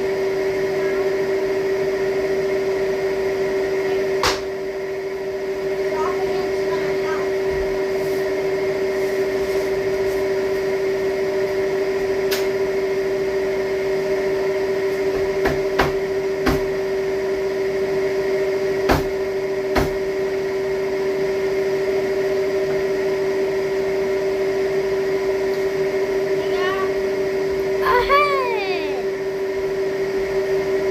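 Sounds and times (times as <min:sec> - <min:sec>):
steady electrical hum: 0:00.0 - 0:30.9.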